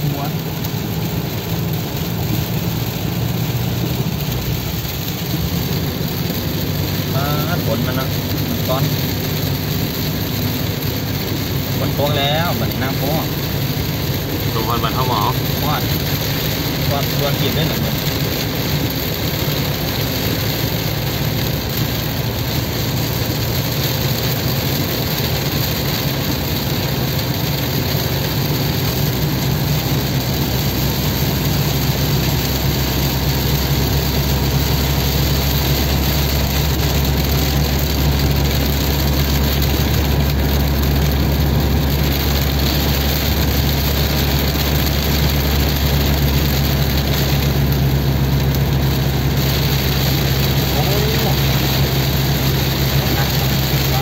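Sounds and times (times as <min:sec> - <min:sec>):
engine and road noise in cabin: 0:00.0 - 0:54.0
heavy rain on car roof: 0:00.0 - 0:54.0.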